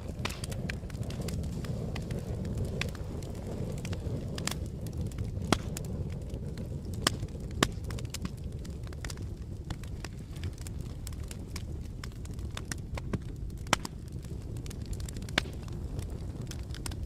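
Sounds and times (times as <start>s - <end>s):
campfire flames rumbling: 0.0s - 17.0s
wood crackling and popping: 0.0s - 17.0s.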